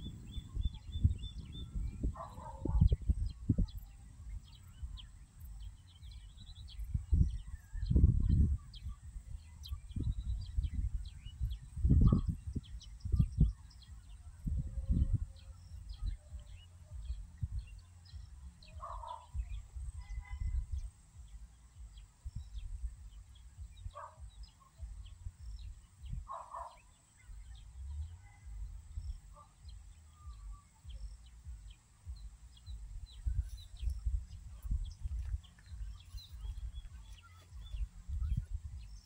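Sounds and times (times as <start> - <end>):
low rumble on microphone: 0.0 - 39.0.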